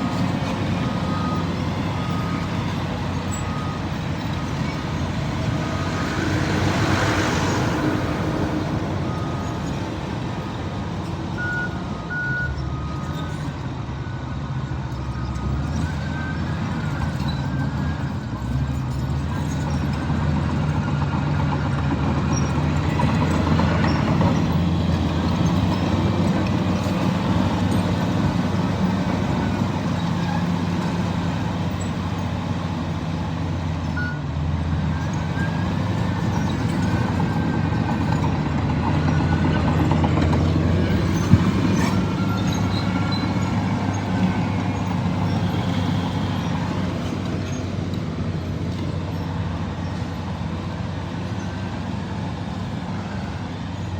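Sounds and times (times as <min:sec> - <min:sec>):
bulldozer diesel engine running: 0:00.0 - 0:53.9.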